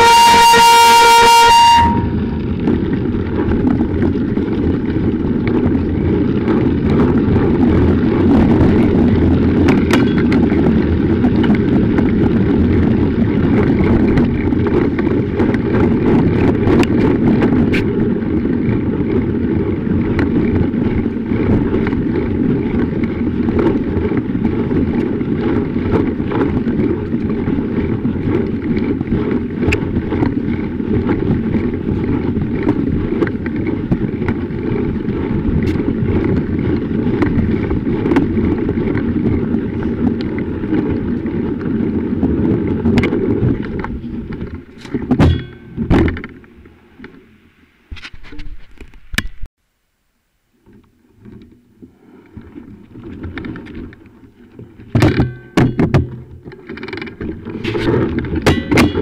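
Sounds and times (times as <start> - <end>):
tyres rolling over snow: 0.0 - 47.4, 56.1 - 59.0
wind rushing over microphone: 0.0 - 49.5
bike clicks and rattles: 2.4 - 47.2, 52.2 - 59.0.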